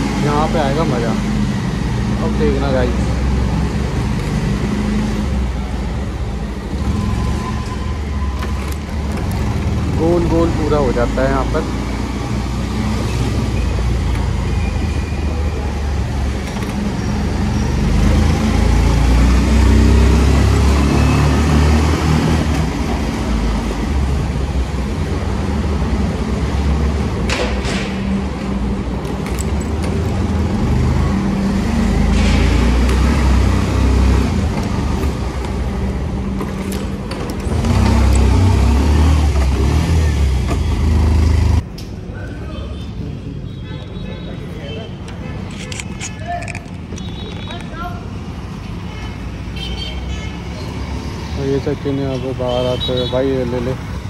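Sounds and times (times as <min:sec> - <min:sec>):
rush of air and road noise: 0:00.0 - 0:43.5.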